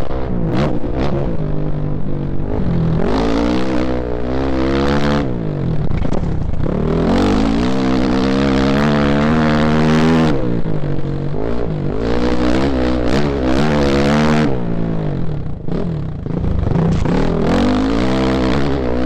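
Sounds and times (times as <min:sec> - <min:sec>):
rushing wind: 0:00.0 - 0:13.1, 0:14.4 - 0:19.0
dirt bike engine revving: 0:00.0 - 0:19.0.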